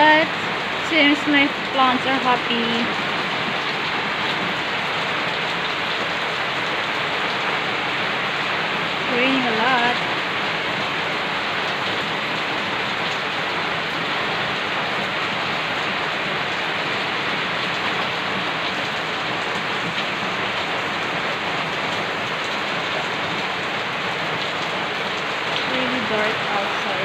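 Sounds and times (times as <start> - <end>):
heavy rain on concrete: 0.0 - 27.0.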